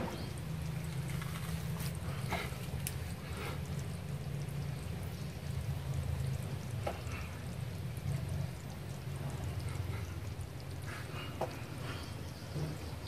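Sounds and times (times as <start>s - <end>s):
low steady hum: 0.0s - 13.0s
snails feeding fizzing crackle: 0.0s - 13.0s.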